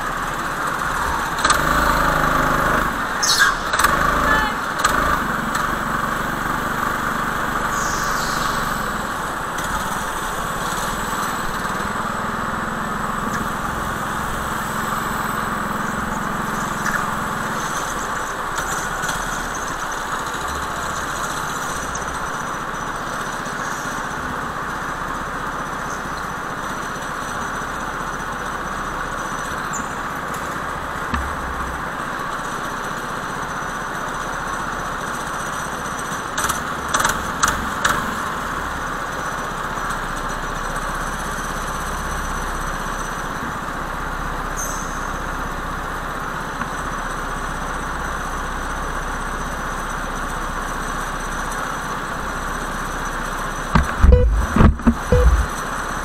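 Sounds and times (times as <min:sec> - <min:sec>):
go-kart engines running: 0:00.0 - 0:56.0.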